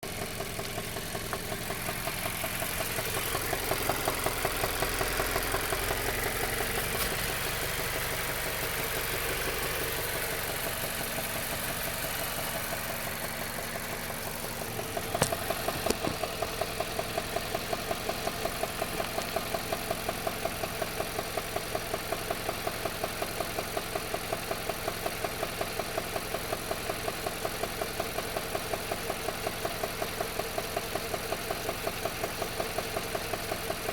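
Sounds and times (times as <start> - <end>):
car engine ticking: 0.0 - 33.9.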